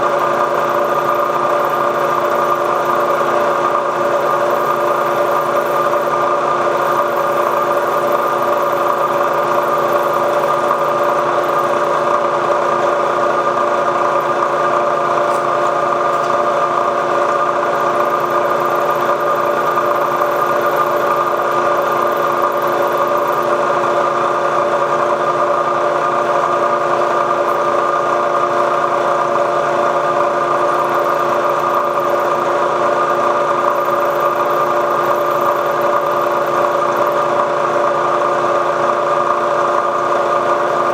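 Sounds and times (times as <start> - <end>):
milling machine humming: 0.0 - 40.9.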